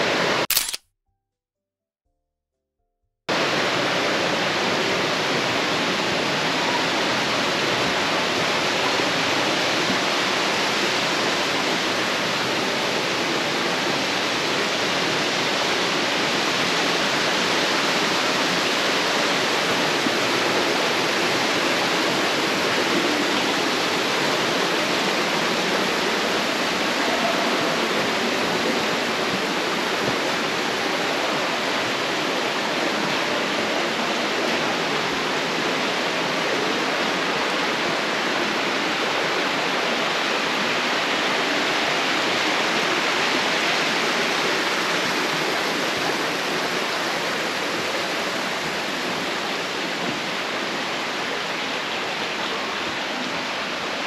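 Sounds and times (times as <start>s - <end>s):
rushing water: 3.3s - 54.0s.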